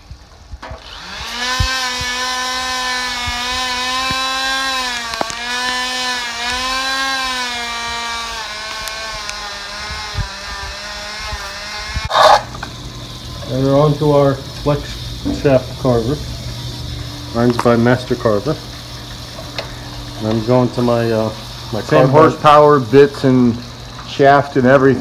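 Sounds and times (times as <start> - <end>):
electric chainsaw cutting wood: 0.0 - 25.0.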